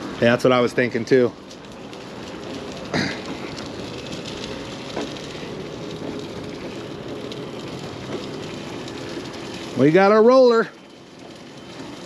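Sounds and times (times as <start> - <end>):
faint electric hum: 0.0 - 12.0
scooter rolling on concrete: 0.0 - 12.0.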